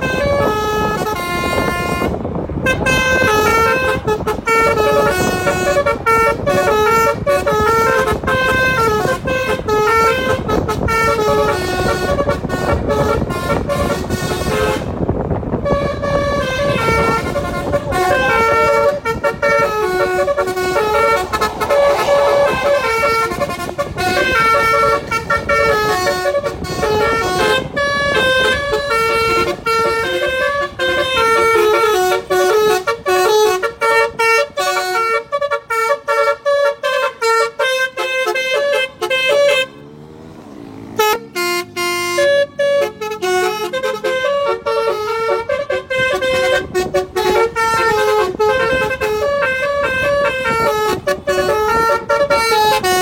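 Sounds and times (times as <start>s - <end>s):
car multi-tone horn tune: 0.0s - 53.0s.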